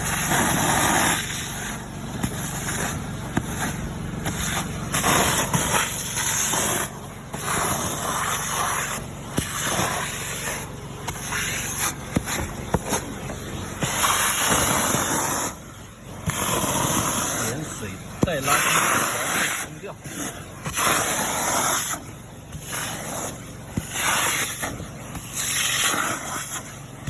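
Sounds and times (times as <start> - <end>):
gutter vacuum running: 0.0 - 27.0.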